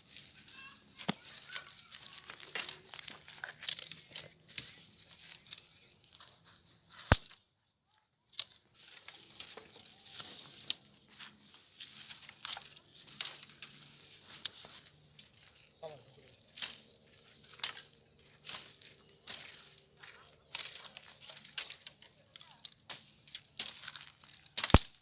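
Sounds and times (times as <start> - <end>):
dry sticks crackling and snapping: 0.0 - 7.7, 8.3 - 25.0.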